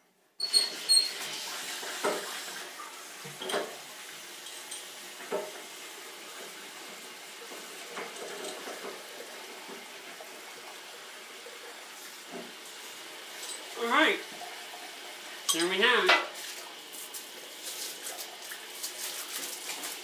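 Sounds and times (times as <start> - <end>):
water running from faucet: 0.4 - 20.0.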